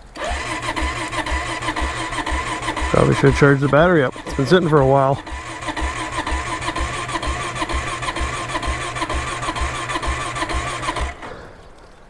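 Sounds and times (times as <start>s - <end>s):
motorcycle starter cranking slowly: 0.0s - 12.0s.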